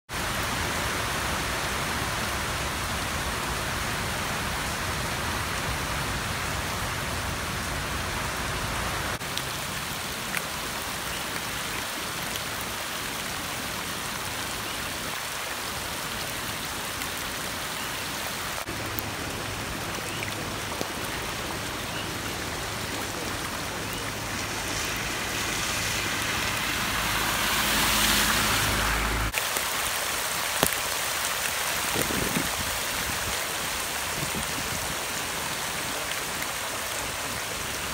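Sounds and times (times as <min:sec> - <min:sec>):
rain on wet road: 0:00.1 - 0:37.9
tyres hissing on wet road: 0:00.1 - 0:37.9.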